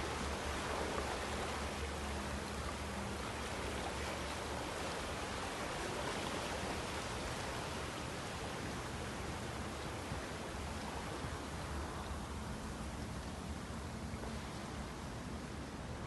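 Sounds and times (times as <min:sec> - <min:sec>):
low boat engine drone: 0:00.0 - 0:16.0
rushing water: 0:00.0 - 0:16.0
wind: 0:00.0 - 0:16.0.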